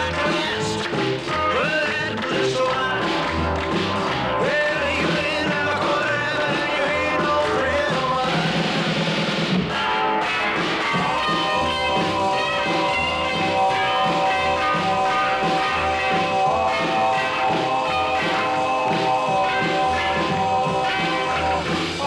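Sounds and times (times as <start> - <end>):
instrumental rock and roll music: 0.0 - 22.0.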